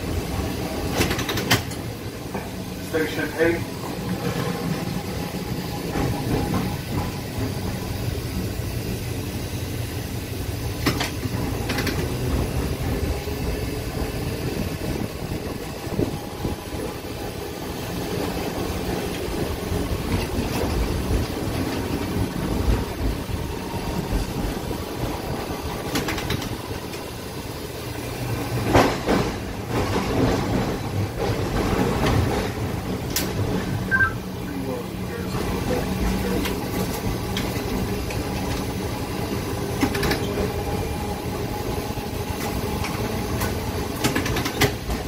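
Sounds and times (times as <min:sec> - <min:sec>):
streetcar wheels rumbling on rails: 0:00.0 - 0:45.0.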